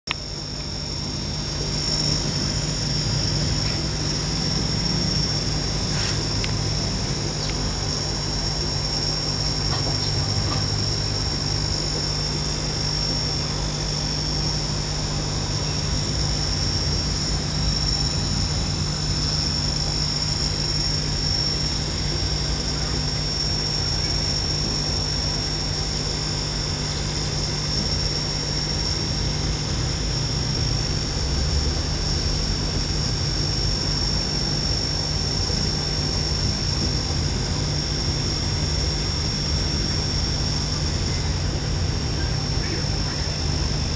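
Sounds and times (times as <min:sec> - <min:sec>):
high-pitched whine: 0:00.1 - 0:43.9
mechanical hum: 0:00.1 - 0:43.9.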